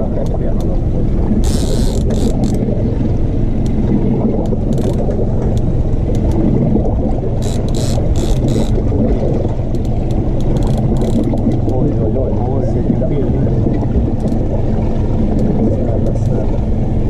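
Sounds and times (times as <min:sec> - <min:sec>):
outboard motor droning: 0:00.0 - 0:17.0
water noise: 0:00.0 - 0:17.0
wind: 0:00.0 - 0:17.0.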